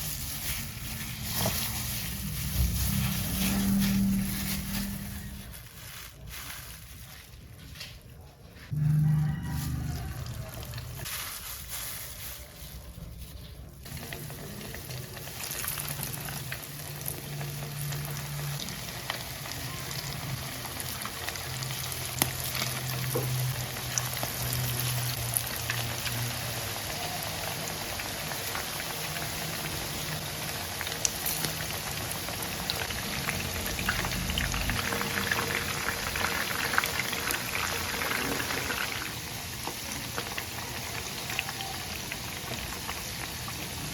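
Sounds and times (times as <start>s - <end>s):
food frying in hot oil: 0.0s - 5.5s, 13.8s - 43.9s.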